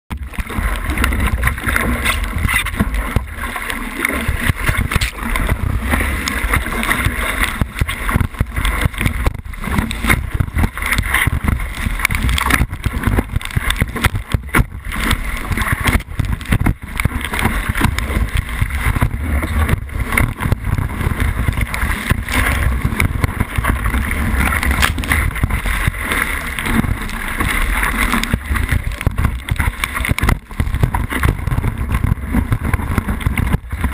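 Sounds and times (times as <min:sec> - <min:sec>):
low wind rumble on microphone: 0:00.1 - 0:33.9
water slapping against board: 0:00.1 - 0:33.9.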